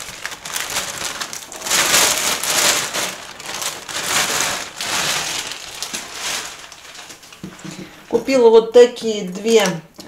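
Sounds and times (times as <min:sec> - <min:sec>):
plastic bag rustling: 0:00.0 - 0:08.5.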